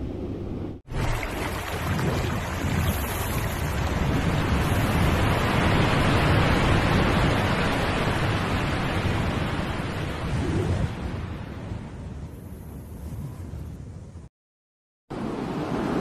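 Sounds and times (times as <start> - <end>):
rushing wind: 0.0 - 14.3.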